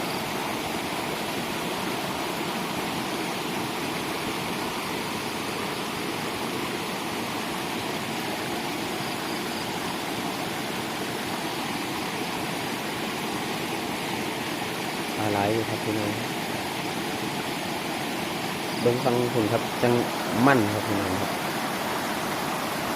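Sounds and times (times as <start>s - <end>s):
flowing water rushing: 0.0s - 22.9s.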